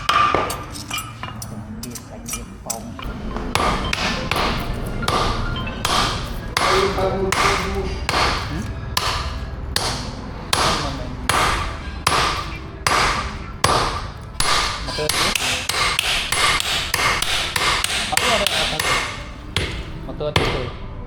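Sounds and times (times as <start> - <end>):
hammer striking steel on anvil: 0.0 - 1.5, 2.3 - 20.9.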